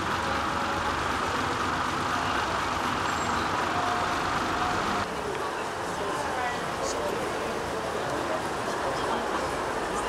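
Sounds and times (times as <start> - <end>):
heavy vehicle engine running: 0.0 - 10.0.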